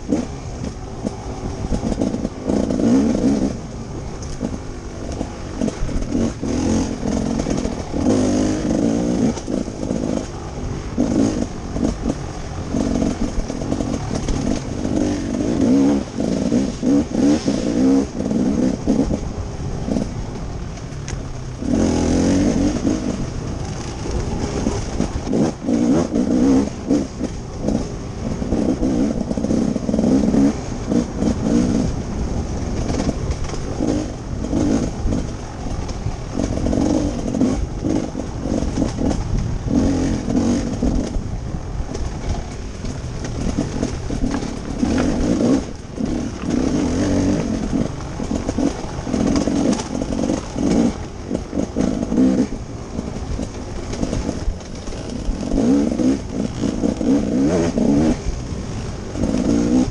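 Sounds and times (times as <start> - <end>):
dirt bike engine revving: 0.0 - 20.4, 21.2 - 59.9
bike knocks and rattles: 0.0 - 59.9.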